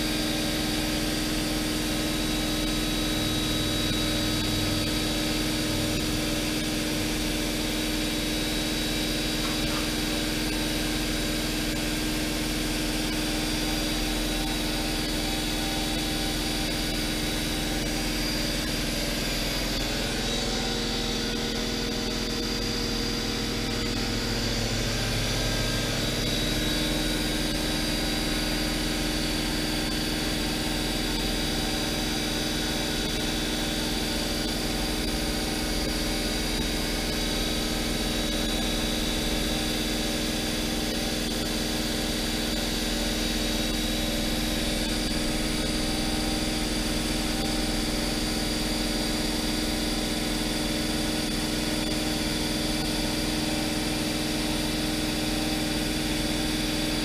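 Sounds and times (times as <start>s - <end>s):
machine hum with high whine: 0.0s - 57.0s.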